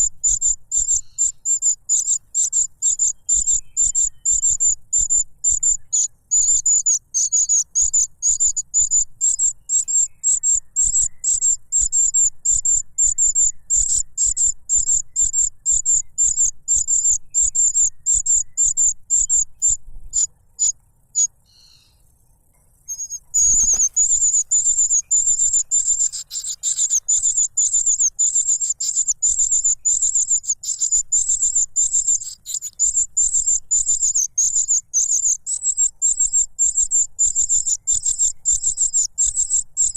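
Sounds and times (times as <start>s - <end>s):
young bird begging calls: 0.0s - 22.0s, 22.9s - 39.9s.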